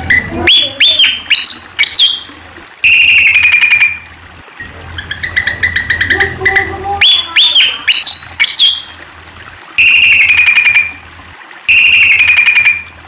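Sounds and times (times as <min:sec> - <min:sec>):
bird squeaky calls: 0:00.0 - 0:04.0, 0:04.6 - 0:09.0, 0:09.8 - 0:11.0, 0:11.7 - 0:12.9
bird buzzy trills: 0:00.0 - 0:13.0.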